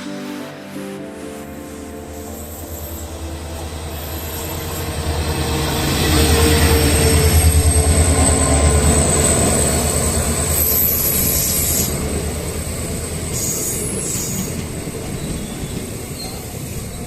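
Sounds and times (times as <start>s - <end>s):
train rumbling along track: 0.0s - 17.0s
train wheel squeal: 0.0s - 17.0s.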